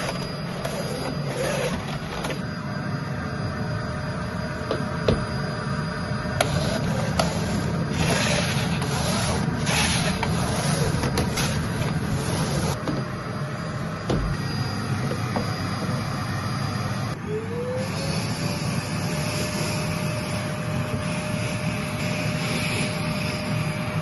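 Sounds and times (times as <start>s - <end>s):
machine motor running: 0.0s - 24.0s
motor whine: 0.0s - 24.0s.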